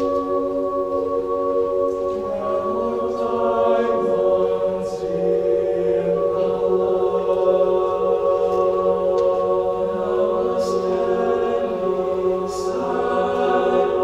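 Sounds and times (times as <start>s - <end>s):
a cappella group singing chords: 0.0s - 14.0s.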